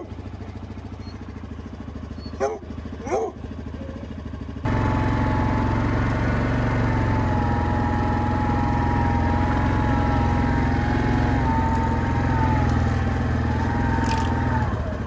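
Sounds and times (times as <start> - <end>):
quad engine running: 0.0 - 15.0.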